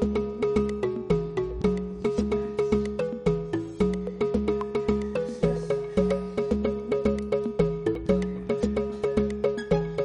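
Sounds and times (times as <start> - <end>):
plucked music over a beat: 0.0 - 10.0.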